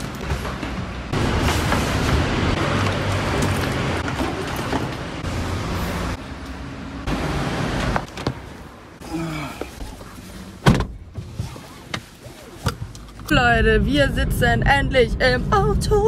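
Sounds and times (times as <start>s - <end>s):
road traffic rushing: 0.0s - 15.5s.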